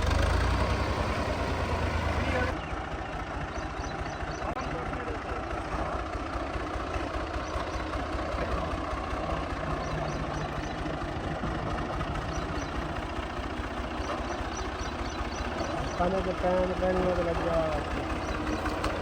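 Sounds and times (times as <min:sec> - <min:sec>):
threshing machinery noise: 0:00.0 - 0:19.0
tractor diesel engine running: 0:00.0 - 0:19.0.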